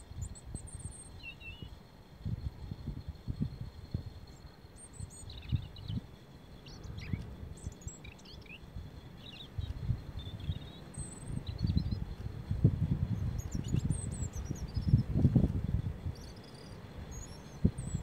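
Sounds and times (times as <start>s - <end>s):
robin twittering song: 0.0s - 18.0s.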